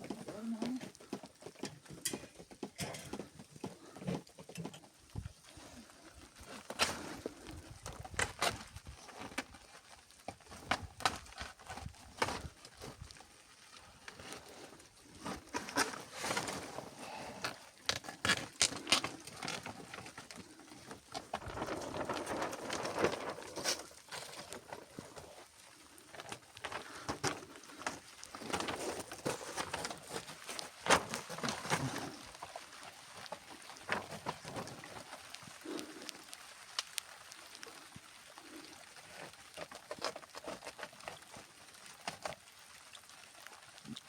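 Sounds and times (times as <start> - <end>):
rustling: 0.0 - 42.5.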